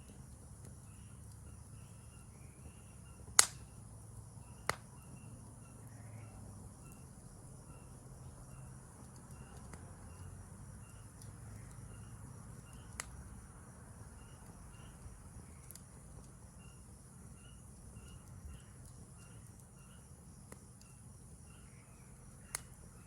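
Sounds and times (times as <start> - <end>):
bonfire crackling and popping: 0.0 - 6.0, 6.8 - 23.0
insects trilling: 0.0 - 23.0.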